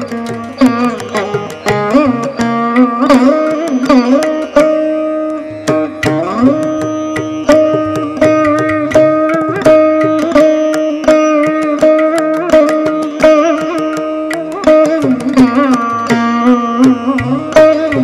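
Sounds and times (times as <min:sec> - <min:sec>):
veena plucked with sliding bends: 0:00.0 - 0:18.0.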